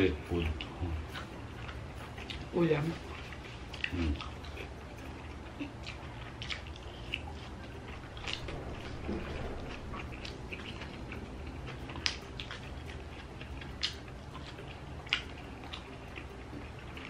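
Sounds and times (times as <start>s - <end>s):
low steady hum: 0.0s - 17.0s
chewing and mouth smacks: 0.4s - 17.0s.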